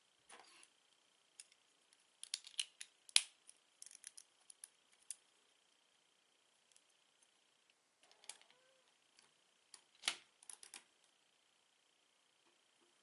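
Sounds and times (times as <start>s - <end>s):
faint high whine: 0.0s - 2.2s, 2.8s - 13.0s.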